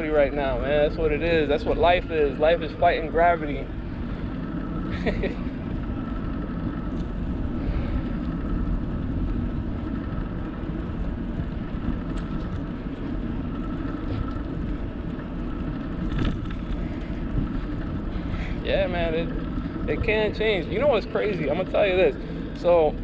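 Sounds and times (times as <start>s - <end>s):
bicycle tyres on pavement: 0.0s - 23.0s
wind rumble on microphone: 0.0s - 23.0s.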